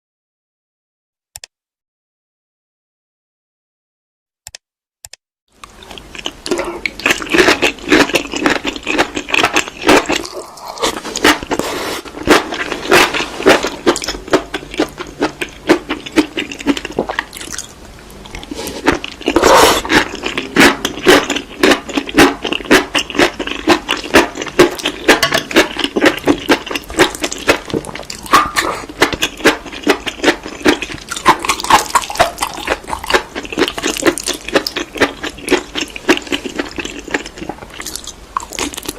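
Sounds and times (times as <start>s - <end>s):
crunching and chewing seaweed: 5.6s - 38.9s.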